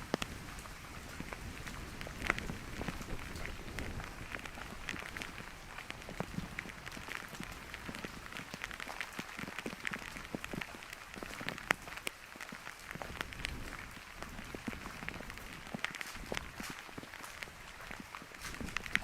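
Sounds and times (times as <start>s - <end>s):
rain hiss: 0.0s - 19.0s
raindrops ticking on surfaces: 0.0s - 19.0s.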